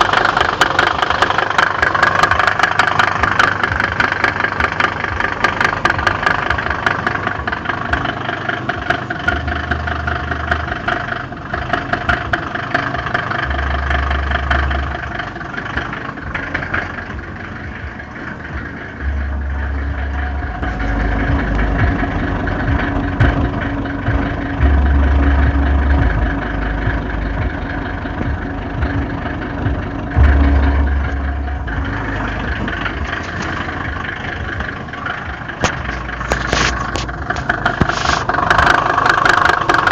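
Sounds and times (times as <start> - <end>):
diesel engine idling with knocking: 0.0 - 39.9.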